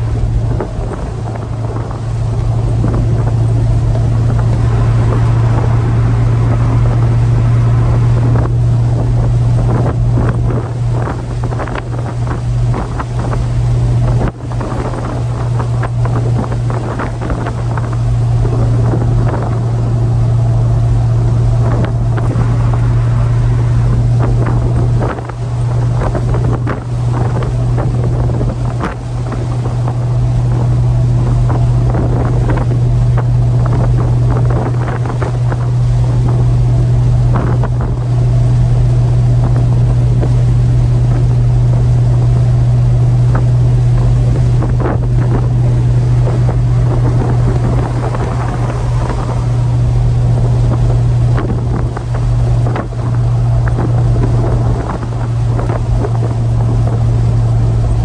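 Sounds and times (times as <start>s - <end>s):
car engine running: 0.0s - 58.0s
wind noise on microphone: 0.0s - 58.0s.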